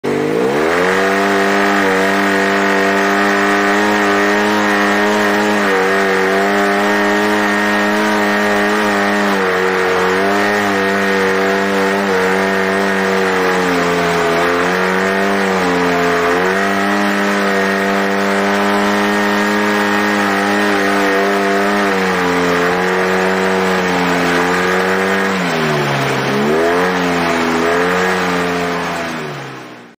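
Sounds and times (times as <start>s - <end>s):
engine revving under load: 0.0s - 29.9s.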